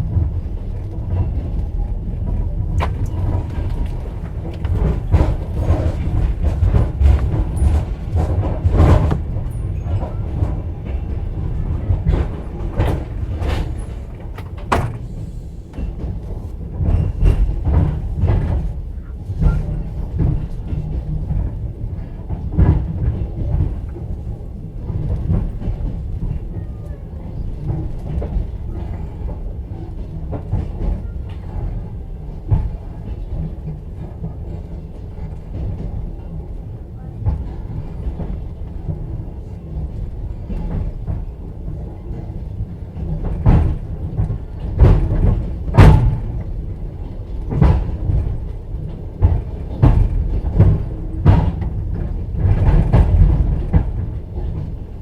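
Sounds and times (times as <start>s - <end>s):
train rolling rumble: 0.0s - 55.0s
train wheel knocks and clacks: 0.0s - 55.0s.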